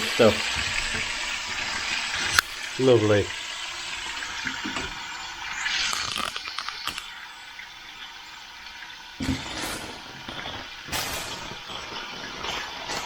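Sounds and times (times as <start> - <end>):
bacon sizzling in pan: 0.0 - 13.0.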